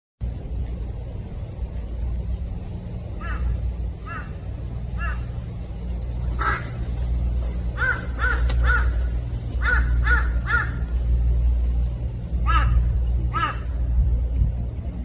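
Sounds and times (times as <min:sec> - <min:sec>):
steady low rumble: 0:00.2 - 0:15.0.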